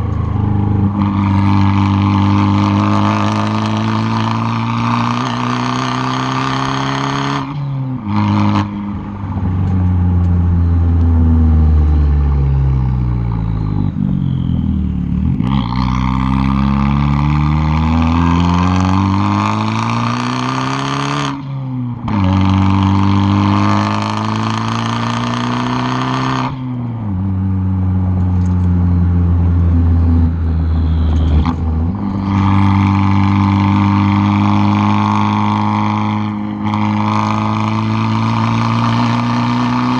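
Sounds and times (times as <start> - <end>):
car exhaust accelerating: 0.0 - 39.9.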